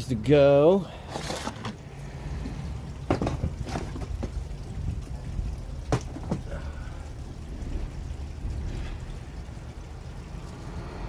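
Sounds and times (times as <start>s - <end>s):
low steady rumble: 1.7s - 11.0s.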